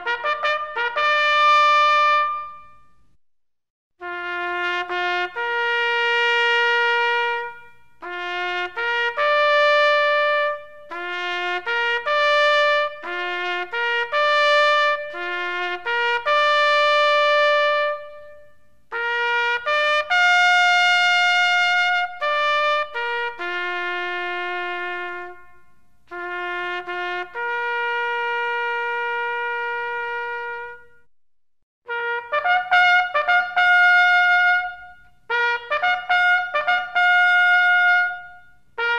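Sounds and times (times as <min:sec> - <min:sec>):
solo trumpet playing: 0:00.0 - 0:03.0, 0:04.0 - 0:31.1, 0:31.9 - 0:38.9.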